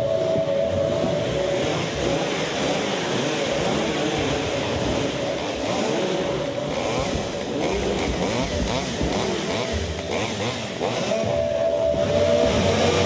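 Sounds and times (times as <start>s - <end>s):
chainsaw engine revving: 1.3s - 13.0s.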